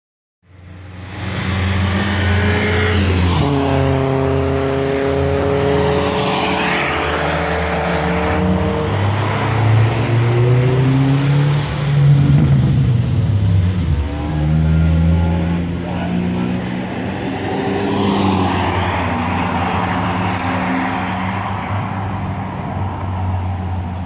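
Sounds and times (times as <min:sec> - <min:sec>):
racing car engine revving: 0:00.8 - 0:21.8.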